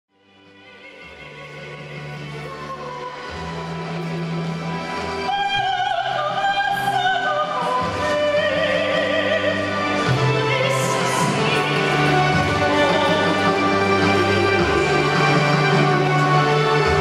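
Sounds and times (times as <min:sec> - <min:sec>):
woman singing opera: 0:00.6 - 0:03.6, 0:05.2 - 0:17.0
instrumental accompaniment low notes: 0:01.0 - 0:17.0.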